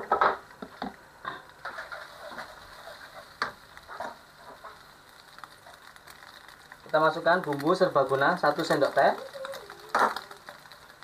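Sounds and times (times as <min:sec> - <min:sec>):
egg frying in oil: 0:00.0 - 0:11.0.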